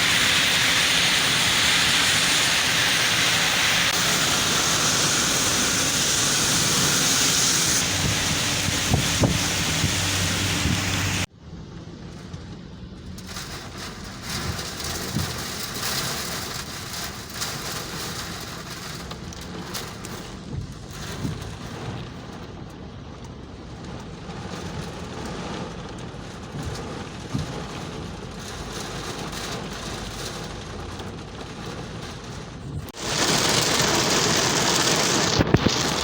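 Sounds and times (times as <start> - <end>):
heavy rain splashing: 0.0 - 11.3, 11.9 - 36.0.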